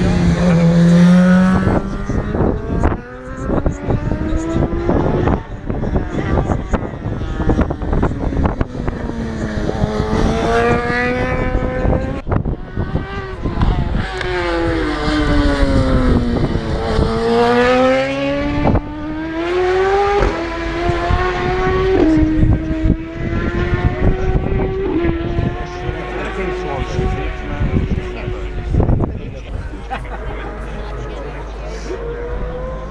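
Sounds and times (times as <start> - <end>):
wind on microphone: 0.0 - 26.1, 26.7 - 29.8
motorcycle engines revving: 0.0 - 32.9.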